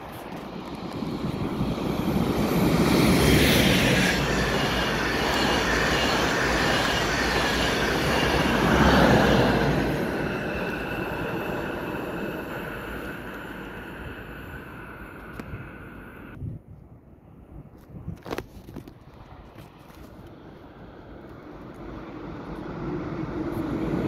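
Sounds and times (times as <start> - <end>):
electric train passing: 0.0 - 16.4, 19.9 - 24.0.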